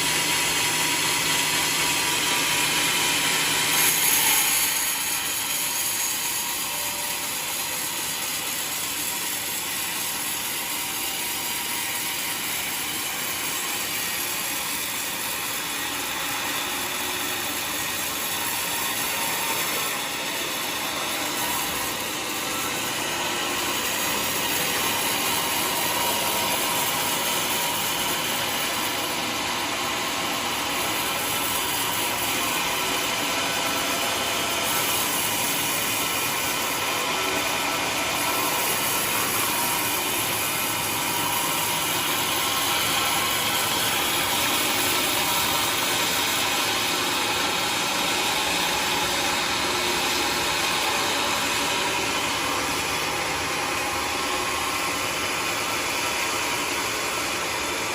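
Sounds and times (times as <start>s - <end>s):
sawmill cutting log: 0.0s - 57.9s.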